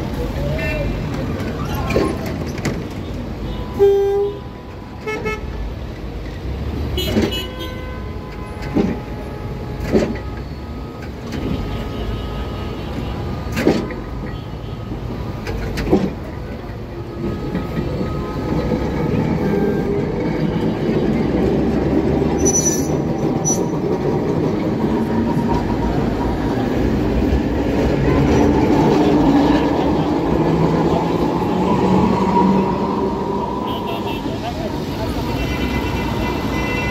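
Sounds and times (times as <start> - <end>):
tram wheels rumbling on rails: 0.0 - 3.6, 4.3 - 36.9.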